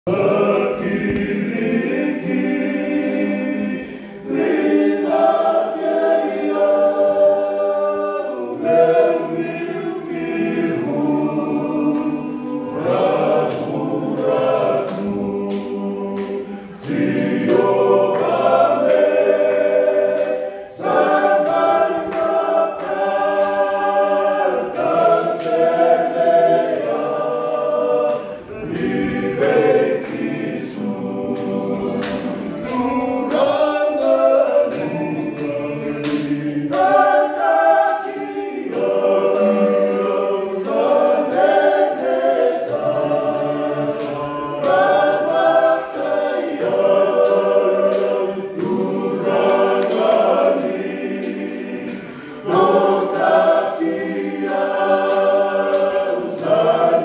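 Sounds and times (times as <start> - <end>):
men's choir singing a hymn: 0.1 - 57.0.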